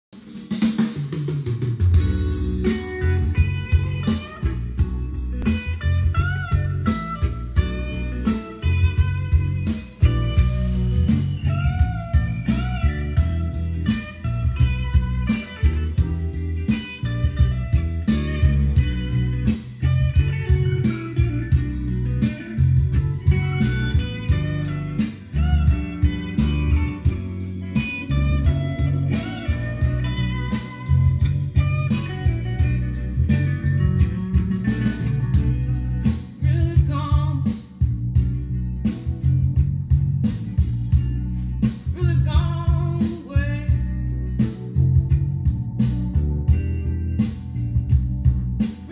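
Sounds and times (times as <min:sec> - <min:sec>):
blues music over speakers: 0:00.2 - 0:48.9.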